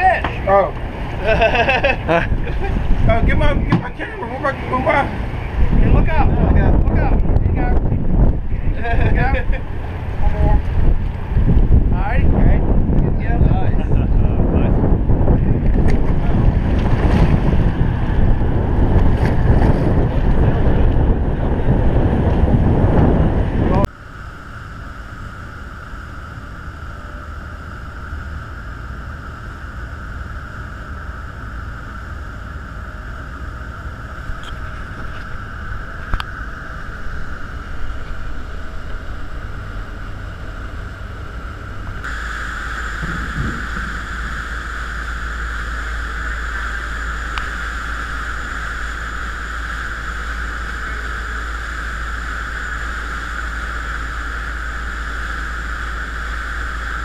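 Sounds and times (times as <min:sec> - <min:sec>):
boat engines droning: 0:00.0 - 0:57.0
water rushing along hull: 0:00.0 - 0:57.0
wind: 0:00.0 - 0:57.0.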